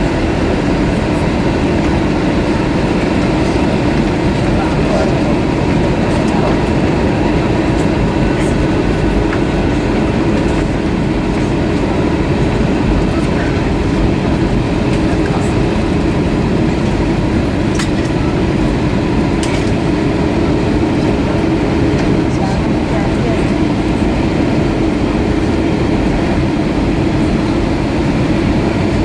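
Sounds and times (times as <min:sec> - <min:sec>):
jet engines droning: 0:00.0 - 0:29.0.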